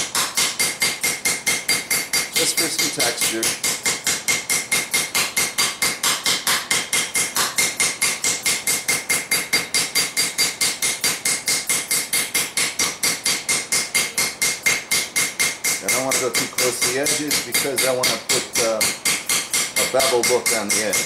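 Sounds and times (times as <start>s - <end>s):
hammer striking hot steel on anvil: 0.0s - 21.0s.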